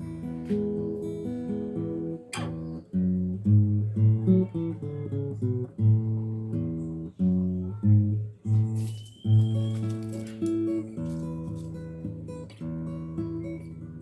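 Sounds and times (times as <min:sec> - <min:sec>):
plucked guitar chords: 0:00.0 - 0:14.0.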